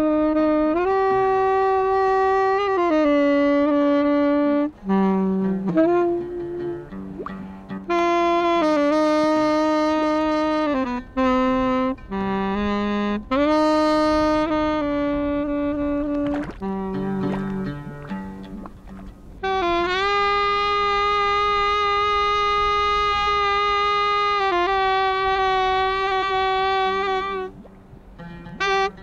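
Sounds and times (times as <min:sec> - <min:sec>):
tenor saxophone melody: 0:00.0 - 0:29.0.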